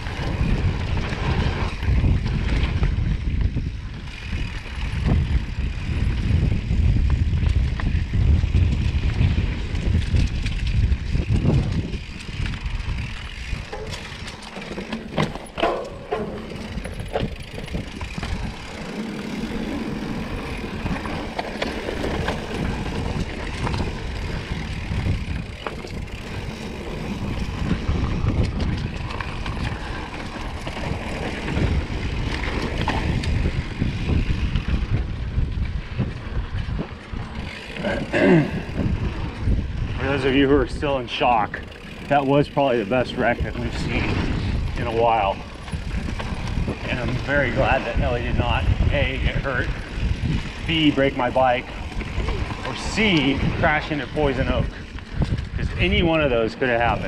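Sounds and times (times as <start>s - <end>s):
bike clicks and rattles: 0.0s - 57.0s
bike tyres on dirt: 0.0s - 57.0s
wind rushing over microphone: 0.0s - 57.0s.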